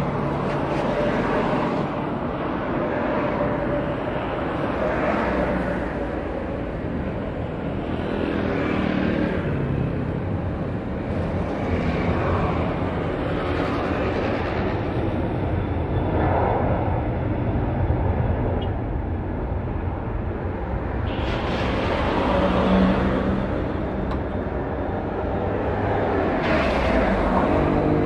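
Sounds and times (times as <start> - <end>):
jet engines at takeoff: 0.0 - 28.0.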